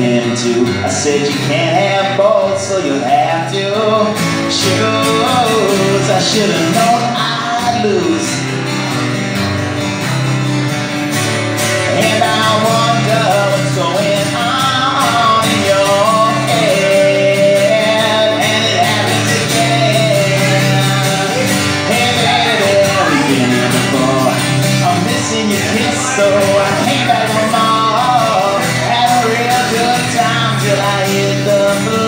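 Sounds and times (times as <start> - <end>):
man singing: 0.0 - 8.6, 11.8 - 32.0
acoustic guitar strumming chords: 0.0 - 32.0.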